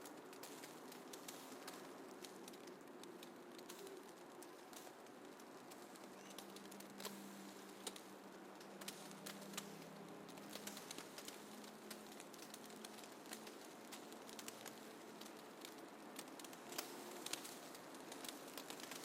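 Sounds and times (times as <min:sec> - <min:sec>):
snowfall ticks and crackles: 0:00.0 - 0:19.0
soft steady hiss: 0:00.0 - 0:19.0.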